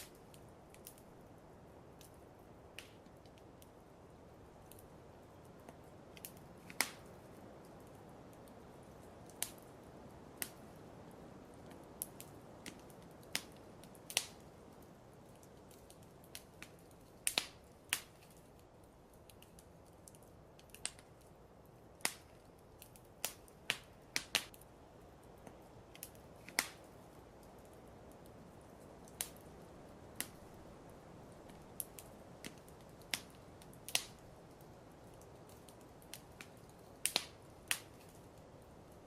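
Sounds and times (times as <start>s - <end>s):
fireplace crackling: 0.0s - 39.0s
steady low hiss: 0.0s - 39.0s.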